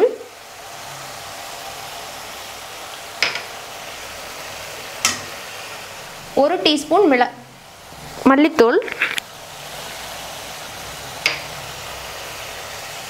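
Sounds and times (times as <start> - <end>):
gravy sizzling in oil: 0.0 - 13.0.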